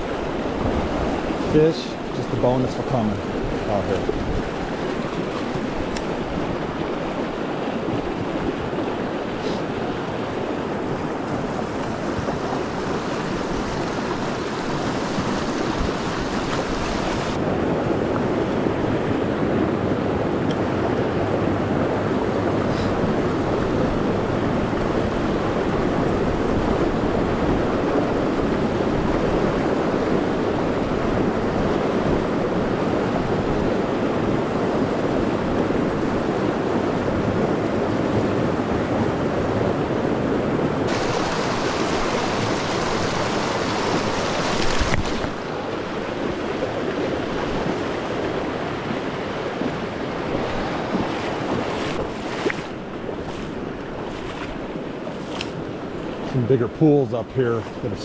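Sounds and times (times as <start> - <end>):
stream rushing water: 0.0 - 58.0.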